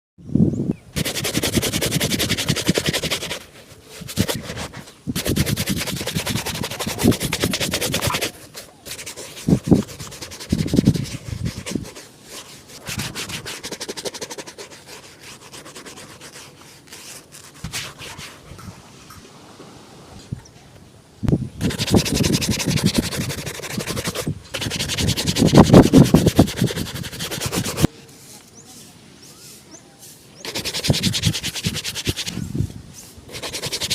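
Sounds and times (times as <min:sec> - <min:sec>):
shoe being polished: 0:01.0 - 0:18.4, 0:21.6 - 0:27.9, 0:29.4 - 0:32.4, 0:33.0 - 0:33.9.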